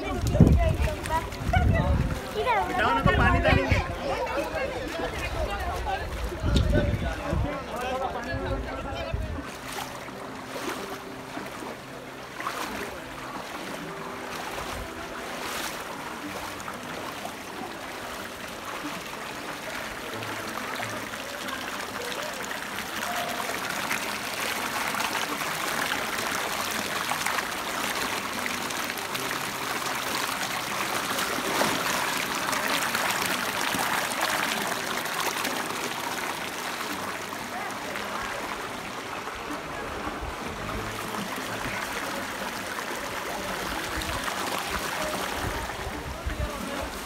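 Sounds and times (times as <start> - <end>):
stream trickling over stones: 0.0 - 8.1, 9.4 - 47.0.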